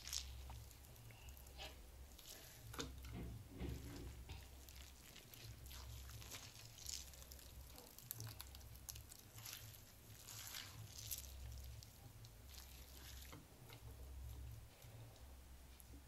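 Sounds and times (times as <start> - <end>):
wet squishing of grated vegetable: 0.0 - 15.9.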